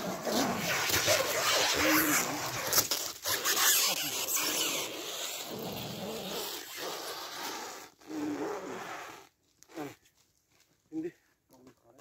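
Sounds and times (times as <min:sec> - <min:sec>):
stretch film rasping: 0:00.2 - 0:10.0.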